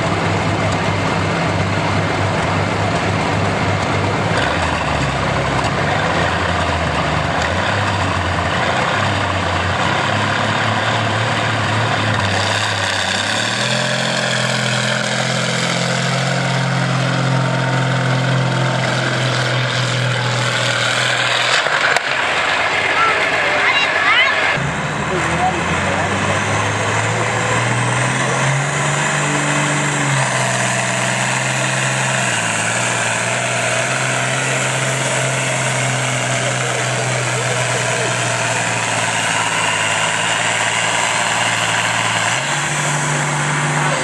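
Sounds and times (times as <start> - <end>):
tractor engine drone: 0.0 - 44.0.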